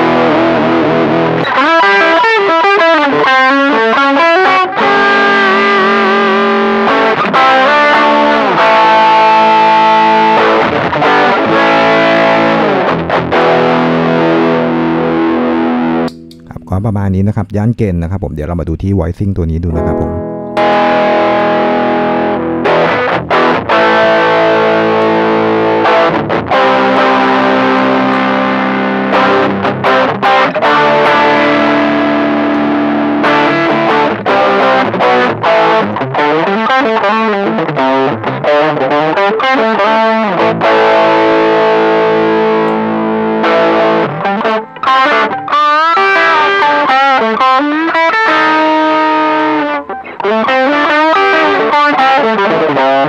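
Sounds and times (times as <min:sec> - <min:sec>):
distorted electric guitar chords: 0:00.0 - 0:17.5, 0:19.6 - 0:53.0
electric guitar lead phrases: 0:00.0 - 0:17.8, 0:19.5 - 0:53.0.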